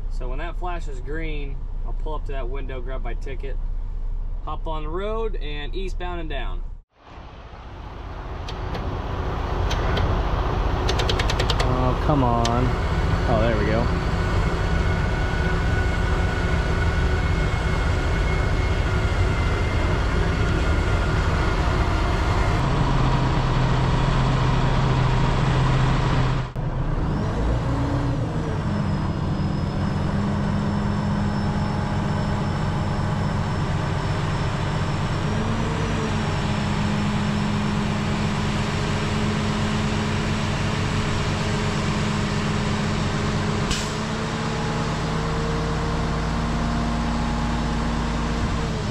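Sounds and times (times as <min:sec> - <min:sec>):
diesel truck engine running: 0:07.0 - 0:48.9.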